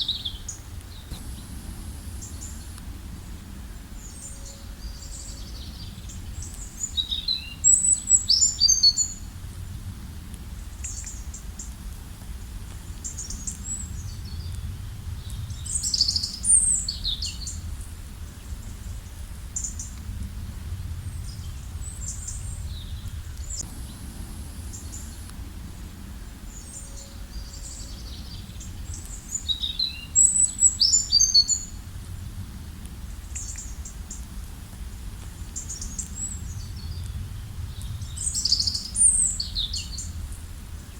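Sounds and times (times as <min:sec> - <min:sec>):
forest birds chirping and trilling: 0:00.0 - 0:09.4, 0:10.6 - 0:11.8, 0:12.9 - 0:32.3, 0:33.0 - 0:40.9
loud rapid bird song: 0:00.0 - 0:09.8, 0:10.6 - 0:11.8, 0:12.8 - 0:40.9
steady low rumble: 0:00.0 - 0:40.9.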